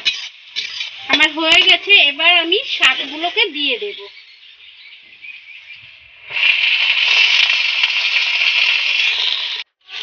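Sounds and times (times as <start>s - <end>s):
greens sizzling in hot oil: 0.0s - 4.2s, 6.1s - 10.0s
oil sizzling: 0.0s - 4.5s, 5.4s - 10.0s.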